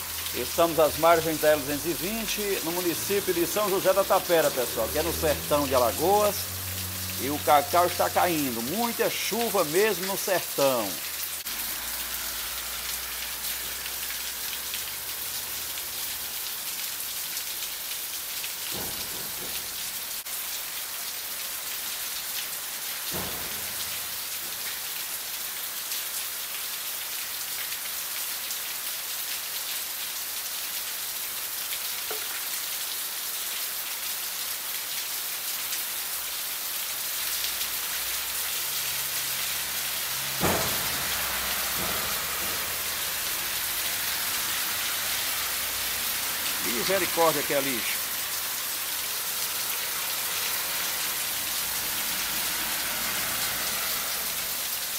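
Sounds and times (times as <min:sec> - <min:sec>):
heavy rain on pavement: 0:00.0 - 0:54.9.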